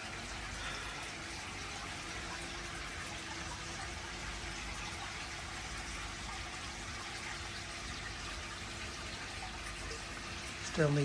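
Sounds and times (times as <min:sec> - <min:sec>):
water rushing into pond: 0:00.0 - 0:11.0.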